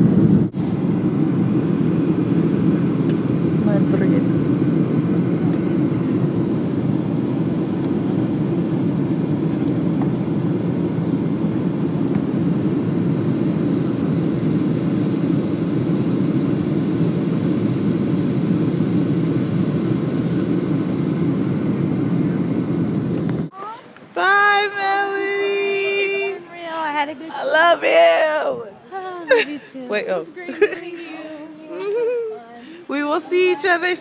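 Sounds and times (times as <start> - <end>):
jet engines droning: 0.0 - 32.0, 32.6 - 34.0.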